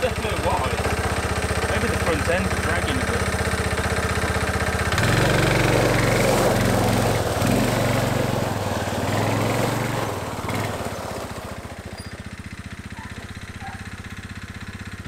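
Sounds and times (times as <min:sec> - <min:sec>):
tyres crunching on gravel: 0:00.0 - 0:14.6
quad engine pulling away: 0:00.0 - 0:15.0.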